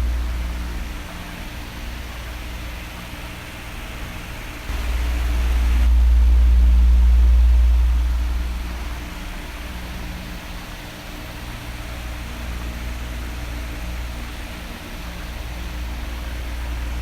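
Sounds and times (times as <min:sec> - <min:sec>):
electric fan air hiss: 0:00.0 - 0:17.0
faint motor hum: 0:00.0 - 0:17.0.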